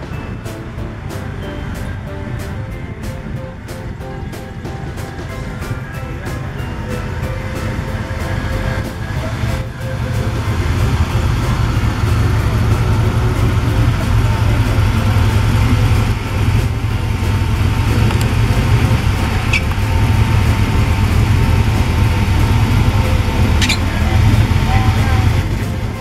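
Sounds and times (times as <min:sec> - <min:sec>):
pickup truck engine passing: 0:00.0 - 0:26.0.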